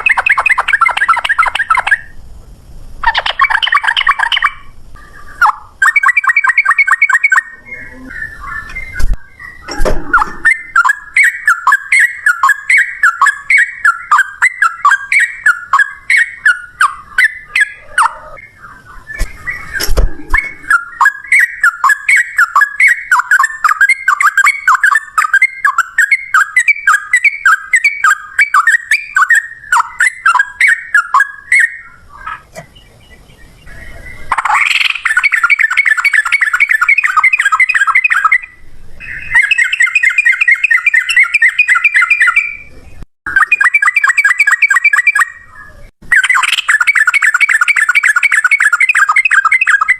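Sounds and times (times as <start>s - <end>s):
bird singing bubbling notes: 0.0s - 2.2s, 3.0s - 49.9s.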